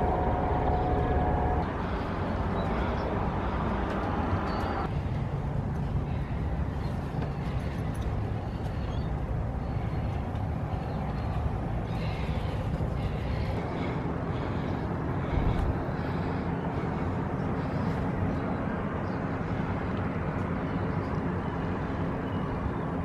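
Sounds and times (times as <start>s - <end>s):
low rumbling outdoor noise: 0.0s - 23.0s.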